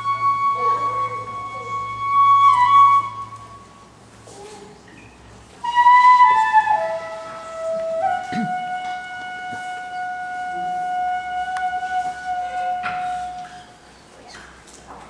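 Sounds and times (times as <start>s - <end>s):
bamboo flute solo: 0.0s - 4.6s, 5.6s - 13.8s.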